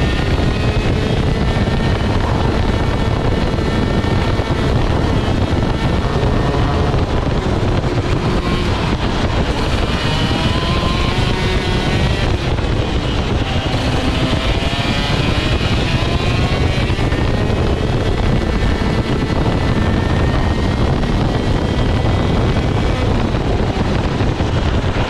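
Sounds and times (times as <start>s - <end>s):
kart engine at racing revs: 0.0s - 25.0s.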